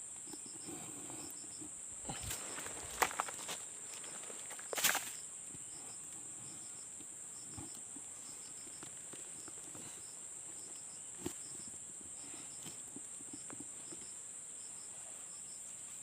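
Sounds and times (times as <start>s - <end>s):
insect chirps: 0.0s - 16.0s
insect drone: 0.0s - 16.0s.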